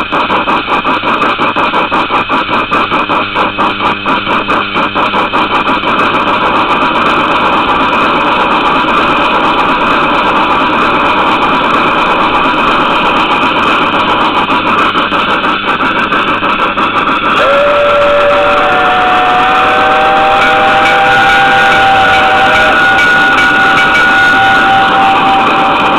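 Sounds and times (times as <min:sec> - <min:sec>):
steam locomotive exhaust chuffs: 0:00.0 - 0:25.9
steam whistle chord: 0:04.8 - 0:25.9.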